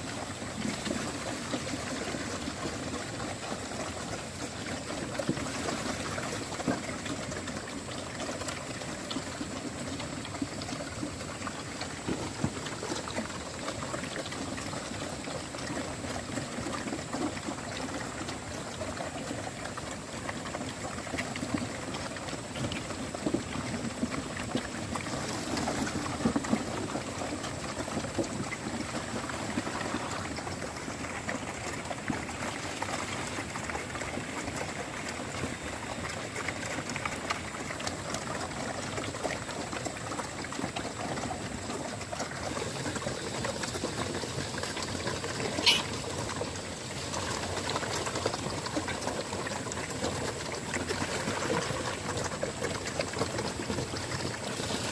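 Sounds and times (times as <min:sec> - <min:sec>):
water running and splashing: 0:00.0 - 0:54.9.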